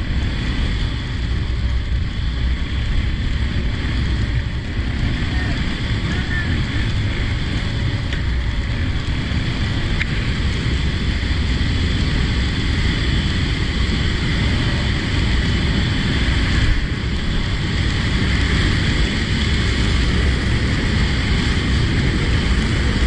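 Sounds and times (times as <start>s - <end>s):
motorcycle engine: 0.0s - 23.0s
road noise: 0.0s - 23.0s
wind buffeting microphone: 0.0s - 23.0s.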